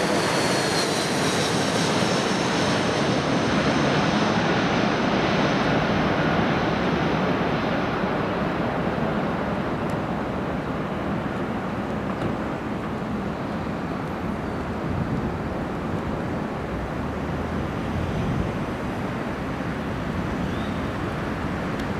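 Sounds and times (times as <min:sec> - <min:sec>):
distant jet noise: 0:00.0 - 0:21.9.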